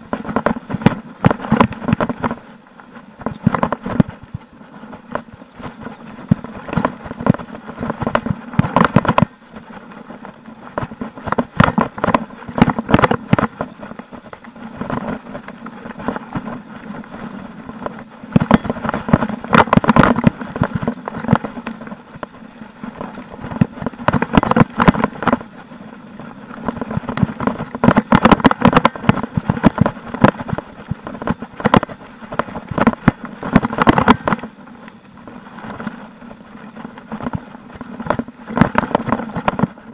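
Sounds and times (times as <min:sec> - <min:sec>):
sharp knocks over bumps: 0:00.0 - 0:02.4, 0:03.2 - 0:25.5, 0:26.6 - 0:34.5, 0:35.5 - 0:39.8
mountain bike rattling: 0:00.0 - 0:39.9
tyre noise on dirt: 0:00.0 - 0:39.9.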